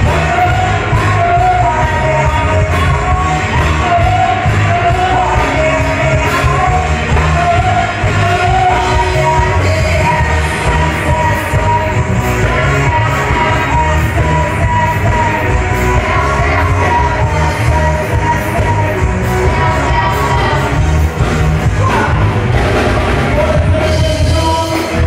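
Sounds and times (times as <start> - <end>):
heavy bass beat: 0.0 - 25.0
live band playing: 0.0 - 25.0
person singing: 0.0 - 25.0.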